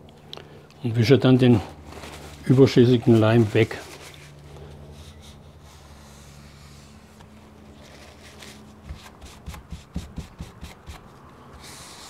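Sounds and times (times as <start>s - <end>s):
low steady hum: 0.0s - 12.0s
faint rubbing: 1.3s - 12.0s.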